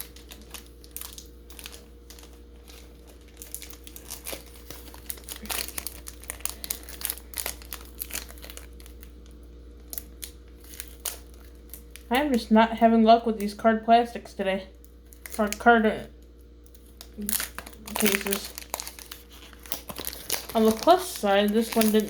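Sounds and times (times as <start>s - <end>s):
plastic foil wrapper crinkling: 0.0s - 13.6s, 14.7s - 22.0s.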